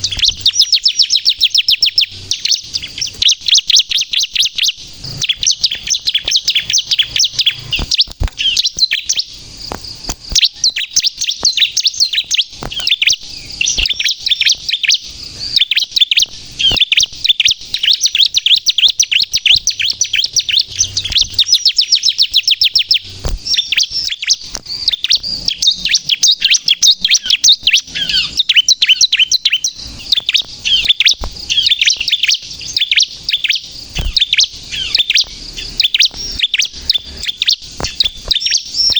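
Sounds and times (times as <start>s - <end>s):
sharp clicks: 0.0s - 1.7s, 2.4s - 28.4s, 29.2s - 38.9s
bird singing fast high chirps: 0.0s - 38.9s.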